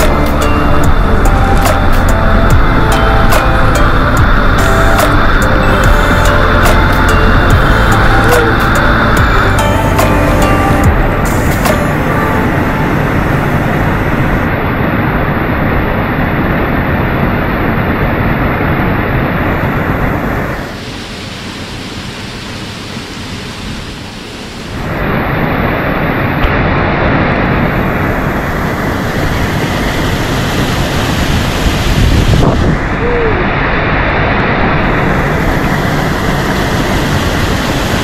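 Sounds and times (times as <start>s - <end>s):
waterfall rushing into pool: 0.0s - 38.0s.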